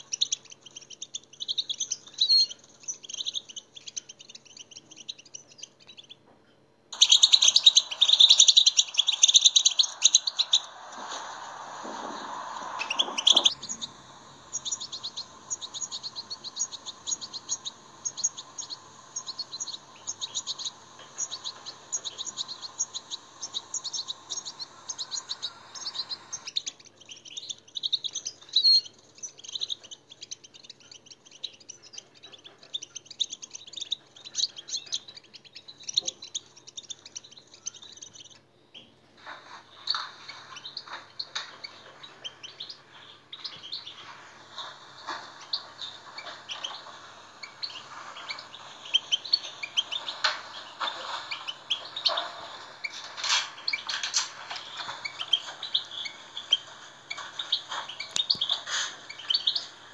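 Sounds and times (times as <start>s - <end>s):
bird twittering song: 0.0s - 6.2s, 6.9s - 39.0s, 39.7s - 59.9s
faint steady hum: 0.0s - 59.9s.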